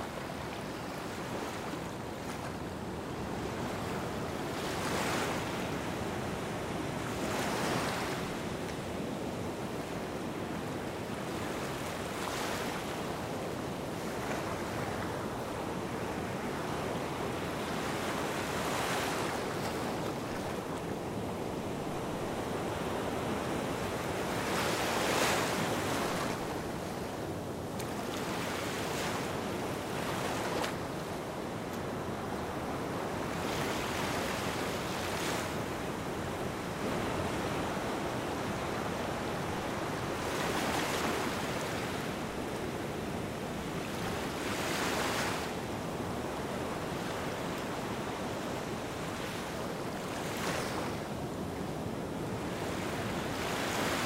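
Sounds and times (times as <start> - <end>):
small waves washing on sand: 0.0 - 54.0.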